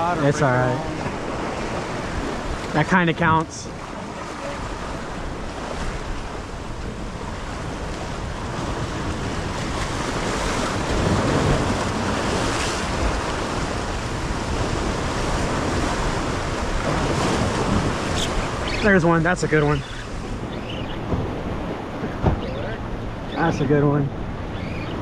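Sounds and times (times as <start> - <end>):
waves washing against rocks: 0.0 - 23.4
wind buffeting microphone: 0.0 - 25.0.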